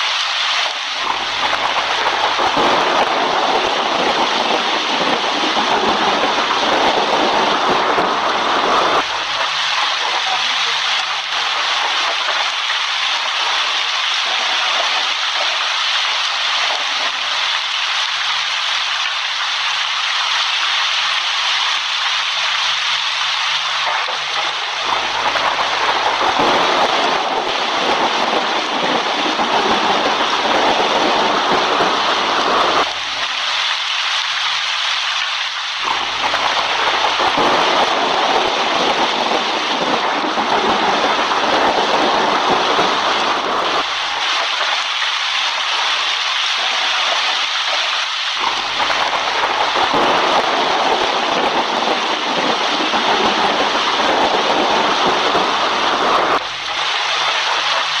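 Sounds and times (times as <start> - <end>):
heavy rain hissing: 0.0 - 58.0
thunder rumble: 0.6 - 17.5, 23.6 - 33.3, 35.8 - 44.8, 45.5 - 58.0.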